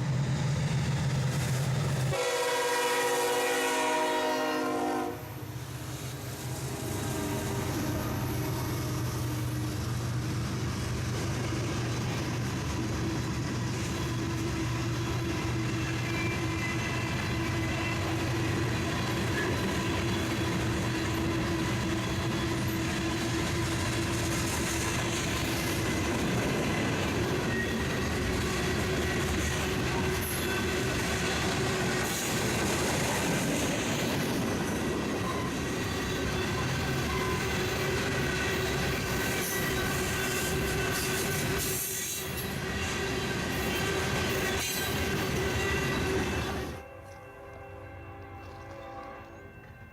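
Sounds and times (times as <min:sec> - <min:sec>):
freight train rumble and clatter: 0:00.0 - 0:49.9.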